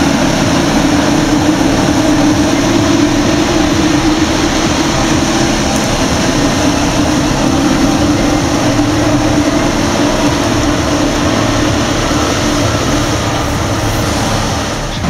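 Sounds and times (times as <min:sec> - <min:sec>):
combine harvester droning: 0:00.0 - 0:15.0.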